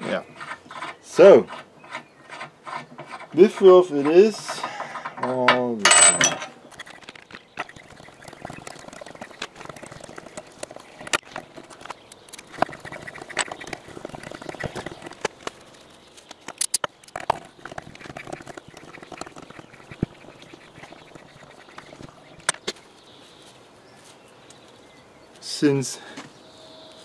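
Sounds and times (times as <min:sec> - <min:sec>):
hand tools clicking and scraping metal: 0:00.0 - 0:22.8.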